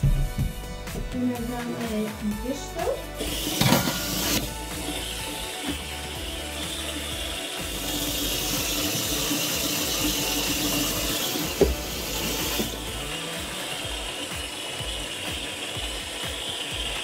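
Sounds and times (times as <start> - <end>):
water running into bathtub: 2.6 - 17.0.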